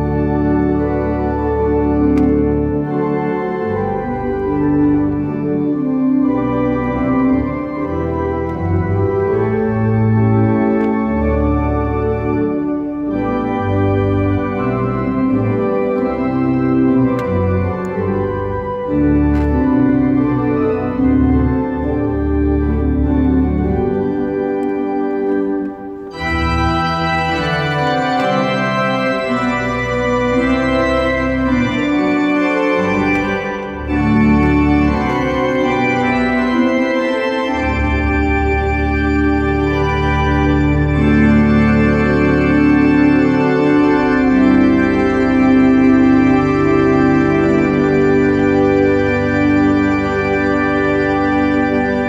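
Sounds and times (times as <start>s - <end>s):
organ chords: 0.0s - 52.0s
organ pedal bass line: 0.0s - 52.0s.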